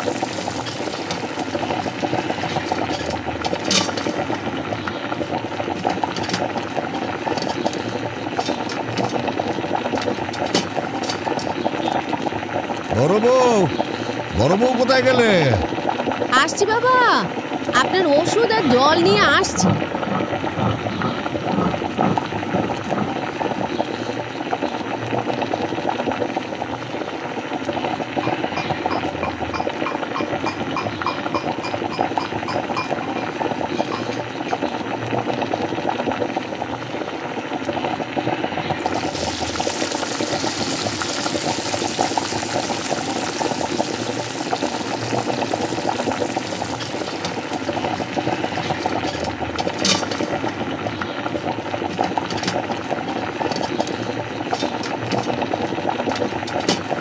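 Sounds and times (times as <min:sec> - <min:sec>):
liquid bubbling and gurgling: 0:00.0 - 0:57.0.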